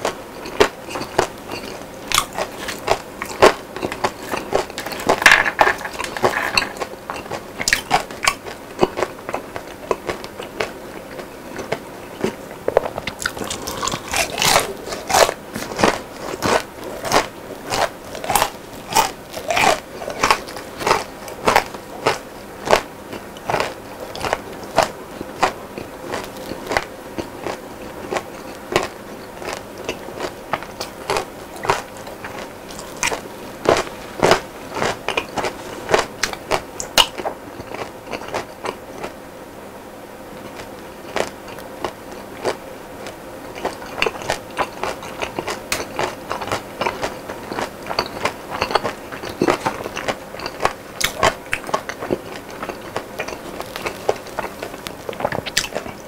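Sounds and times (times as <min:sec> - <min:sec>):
chewing crispy fried food: 0:00.0 - 0:39.2, 0:40.3 - 0:56.0.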